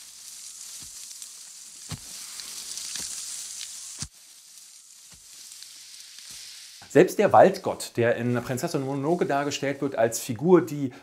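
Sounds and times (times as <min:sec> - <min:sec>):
high hiss: 0:00.0 - 0:09.9.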